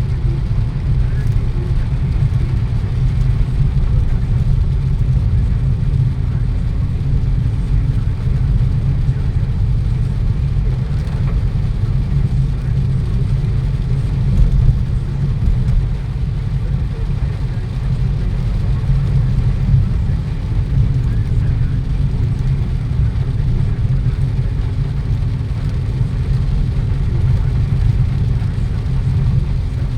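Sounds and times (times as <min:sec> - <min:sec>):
vehicle engine and road noise: 0:00.0 - 0:29.9.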